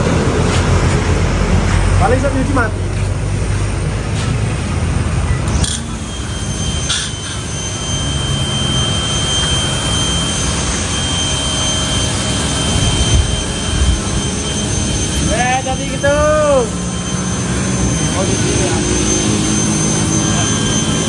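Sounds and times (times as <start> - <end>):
high-pitched whine: 0.0 - 21.0.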